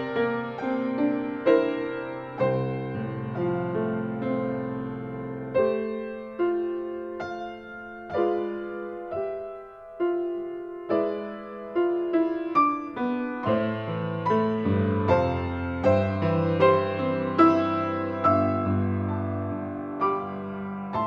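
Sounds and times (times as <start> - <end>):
low piano bass notes: 0.0 - 21.0
slow piano melody: 0.0 - 21.0.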